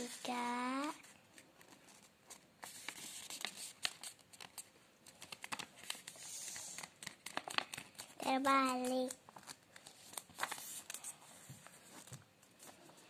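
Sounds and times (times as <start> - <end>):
paper crackling and rustling: 0.0 - 13.0.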